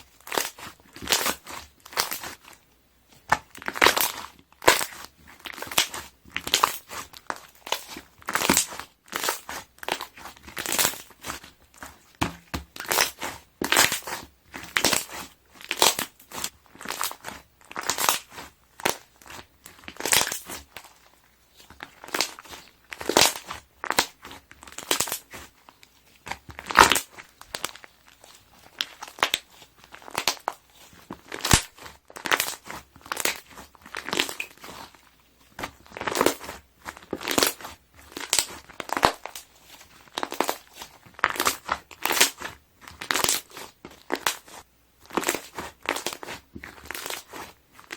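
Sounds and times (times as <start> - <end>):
slime bubbles popping and crackling: 0.0 - 2.6, 3.2 - 20.9, 21.6 - 25.6, 26.2 - 47.9.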